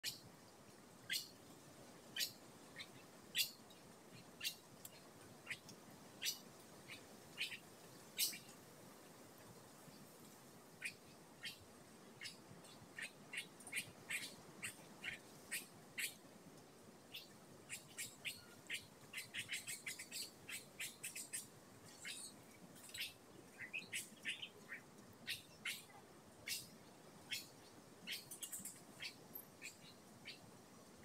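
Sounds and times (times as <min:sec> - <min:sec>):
small birds chirping: 0:00.0 - 0:00.3, 0:01.0 - 0:08.6, 0:09.4 - 0:16.2, 0:17.0 - 0:31.0
faint steady hiss: 0:00.0 - 0:31.0.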